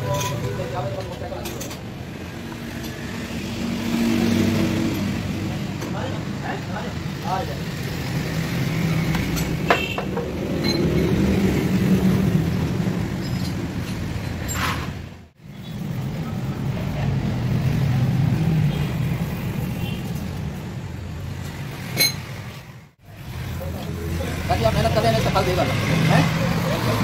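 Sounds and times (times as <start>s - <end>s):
vehicle engines rumbling: 0.0s - 27.0s.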